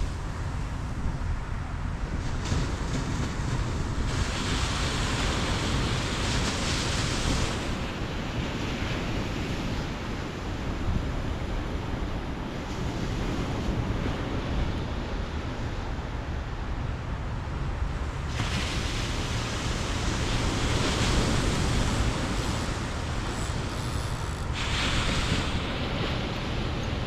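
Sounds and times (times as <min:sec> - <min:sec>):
ocean surf washing ashore: 0:00.0 - 0:27.0
wind rumbling on microphone: 0:00.0 - 0:27.0.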